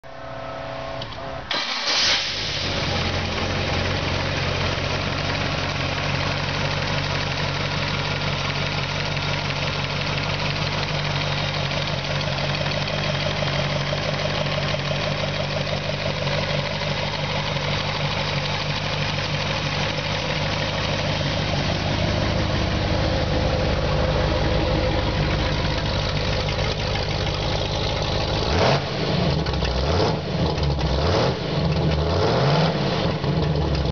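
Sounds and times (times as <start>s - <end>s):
engine cranking and idling: 1.0s - 32.2s, 32.9s - 33.9s.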